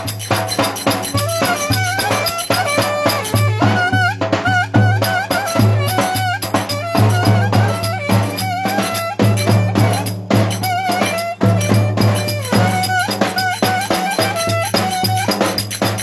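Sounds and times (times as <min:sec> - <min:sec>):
ornamented folk melody: 0:00.0 - 0:16.0
rattling percussion: 0:00.0 - 0:16.0
steady drum beat: 0:00.0 - 0:16.0.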